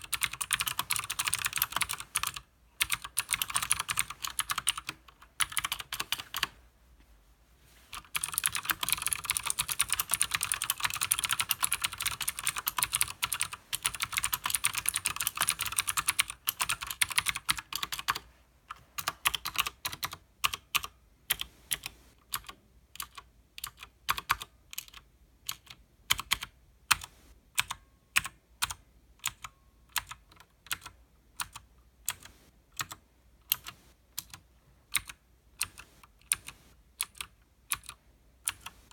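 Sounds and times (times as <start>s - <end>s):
typing on clicky mechanical keyboard: 0.0s - 6.5s, 8.0s - 38.9s.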